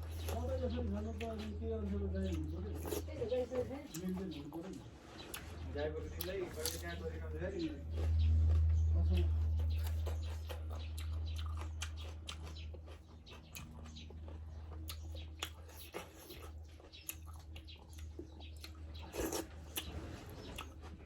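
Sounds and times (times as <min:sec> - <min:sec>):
person chewing: 0:00.0 - 0:00.6, 0:02.3 - 0:05.6, 0:06.2 - 0:07.0, 0:07.8 - 0:21.0
steady low hum: 0:00.0 - 0:21.0.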